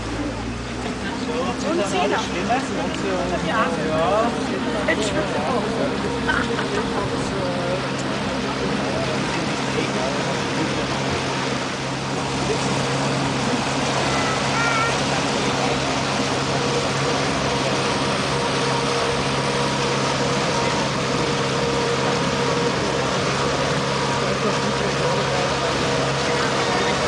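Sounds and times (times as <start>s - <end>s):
outboard motor running: 0.0s - 27.0s
water rushing in wake: 0.0s - 27.0s.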